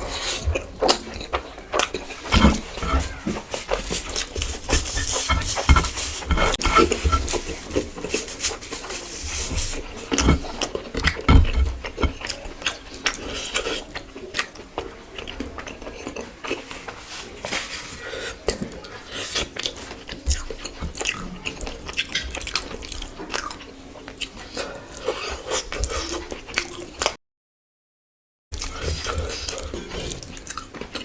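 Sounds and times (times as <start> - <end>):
chewing food: 0.0 - 27.2, 28.6 - 31.0.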